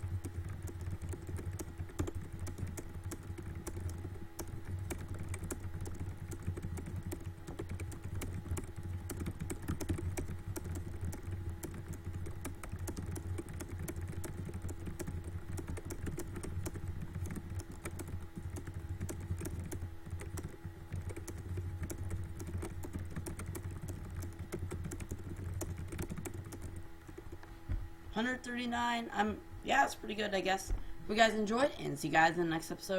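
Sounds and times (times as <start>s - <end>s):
fast typing on keyboard: 0.0s - 27.4s
steady low hum: 0.0s - 32.9s.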